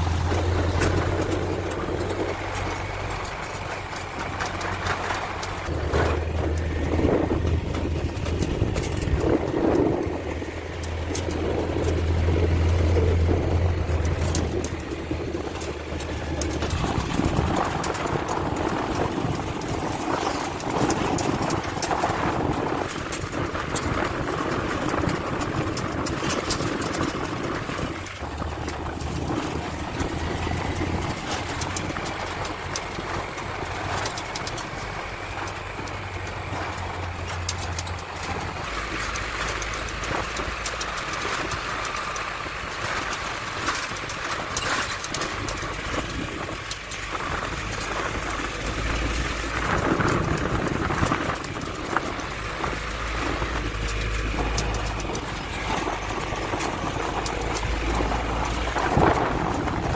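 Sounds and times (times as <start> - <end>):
rumbling noise: 0.0 - 59.9
scattered clicks: 0.0 - 59.9
vehicle engine humming: 0.0 - 59.9.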